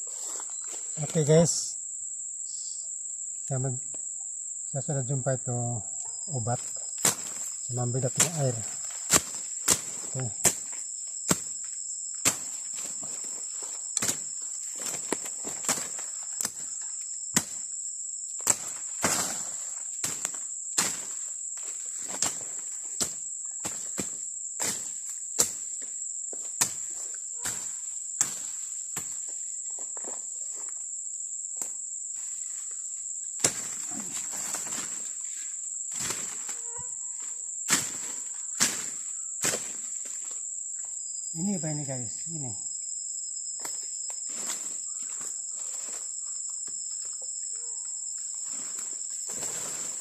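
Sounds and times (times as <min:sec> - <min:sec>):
high-pitched insect chorus: 0:00.0 - 0:50.0.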